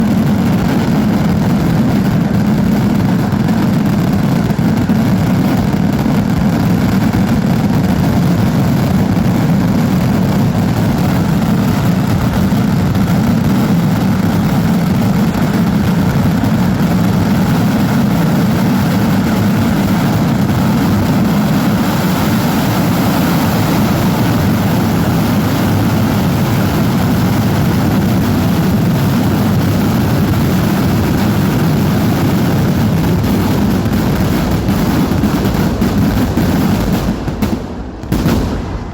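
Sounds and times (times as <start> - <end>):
fireworks barrage roaring: 0.0 - 38.9.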